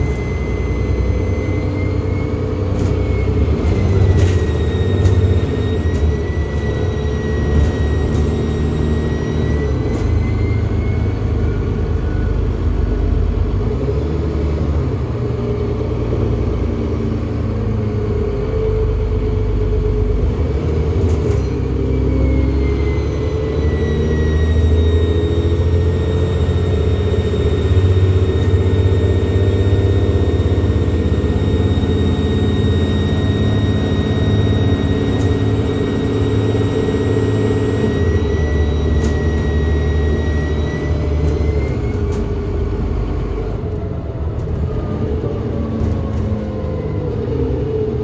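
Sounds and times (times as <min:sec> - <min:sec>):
bus diesel engine rumble: 0:00.0 - 0:48.0
high turbo whine: 0:00.0 - 0:48.0.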